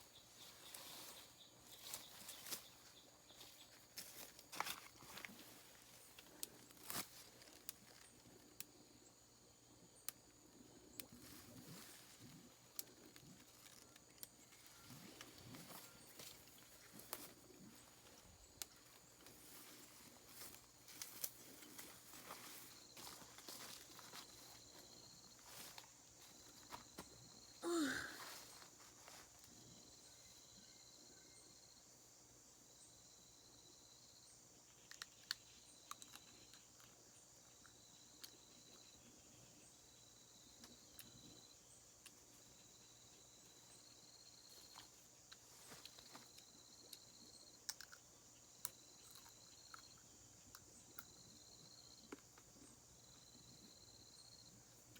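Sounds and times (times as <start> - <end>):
insect chirp: 0.0 - 54.9
insects droning: 0.0 - 54.9.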